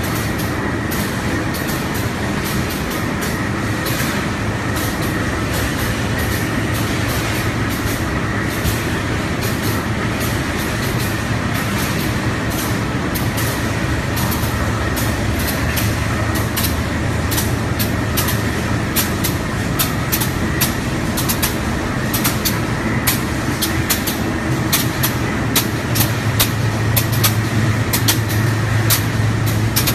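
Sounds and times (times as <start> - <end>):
machinery low hum: 0.0 - 29.9
sharp machine clicks: 0.0 - 29.9.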